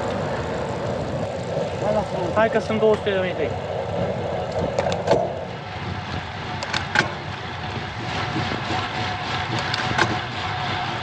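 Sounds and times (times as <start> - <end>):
bike rolling on asphalt: 0.0 - 11.0.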